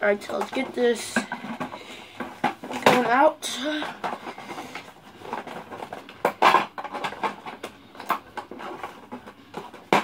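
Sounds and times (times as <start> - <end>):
plastic and cardboard handling: 0.0 - 10.0.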